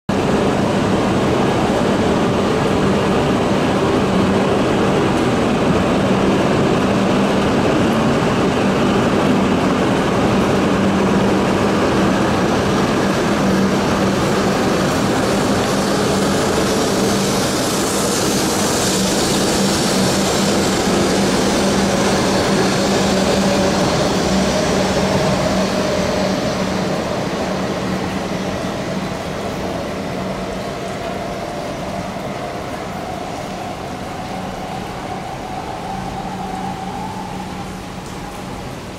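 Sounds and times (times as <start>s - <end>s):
rising train whine: 0.1s - 38.9s
train running with low hum: 0.1s - 38.9s.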